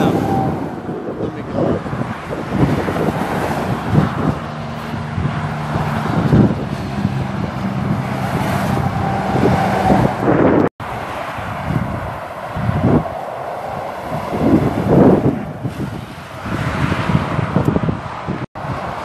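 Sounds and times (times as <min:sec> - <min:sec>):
motorway traffic: 0:00.0 - 0:19.0
wind buffeting microphone: 0:00.0 - 0:19.0.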